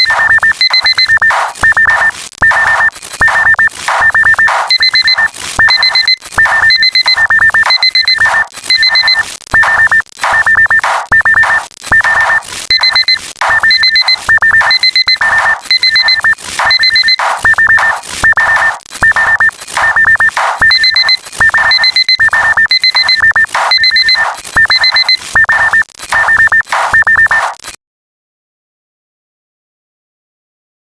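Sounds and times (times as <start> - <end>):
rapid electronic beeping: 0.0 - 27.8.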